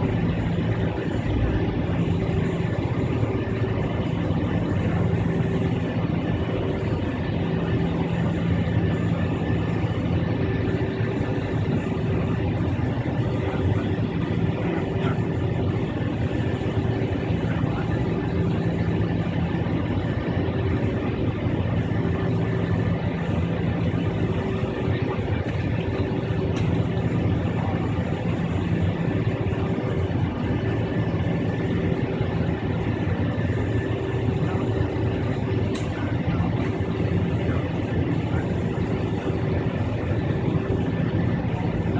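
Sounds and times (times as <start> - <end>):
jet engines humming in cabin: 0.0 - 41.9.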